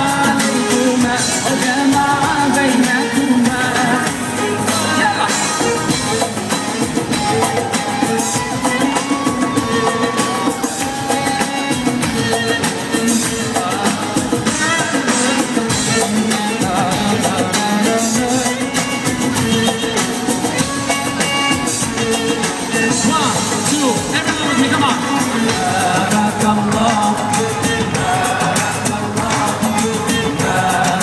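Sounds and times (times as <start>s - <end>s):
live band music: 0.0s - 31.0s
person singing: 0.0s - 31.0s.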